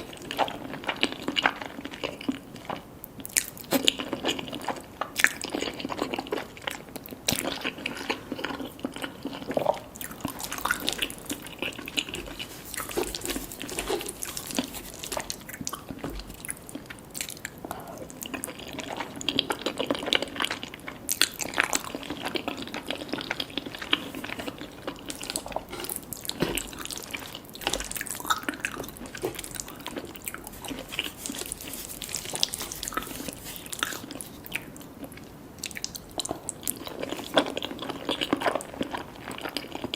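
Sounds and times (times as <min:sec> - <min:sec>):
person chewing wet food: 0:00.0 - 0:39.9.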